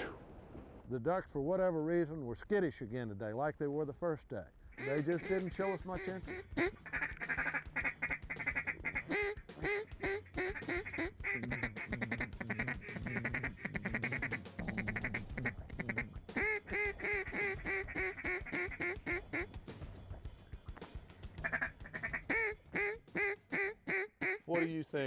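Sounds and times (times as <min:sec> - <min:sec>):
duck calls quacking: 0:04.7 - 0:25.0.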